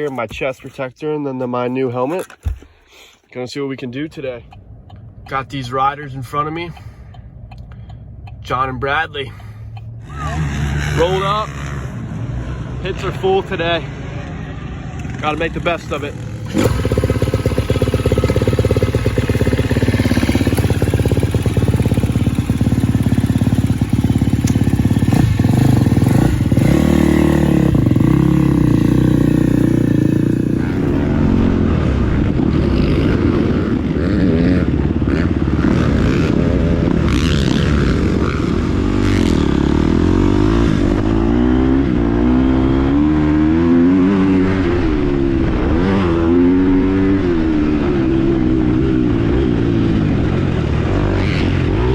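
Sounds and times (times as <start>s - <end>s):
motorcycle engine revving: 9.8s - 51.9s.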